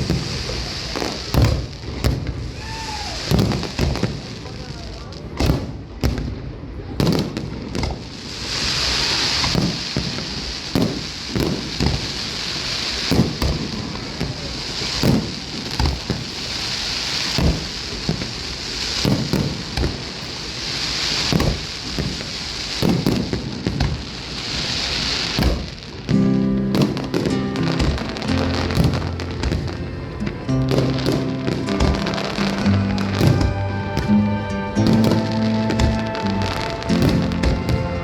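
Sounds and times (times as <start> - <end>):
firework shells bursting: 0.0 - 4.6, 5.2 - 38.0
crackle of sparkling fireworks: 0.0 - 38.0.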